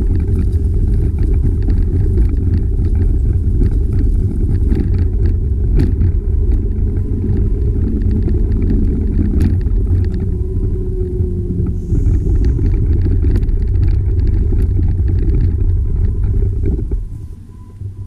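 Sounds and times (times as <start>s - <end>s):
small clicks and rattles: 0.0s - 17.9s
road rumble: 0.0s - 18.0s
wind on microphone: 0.0s - 18.0s.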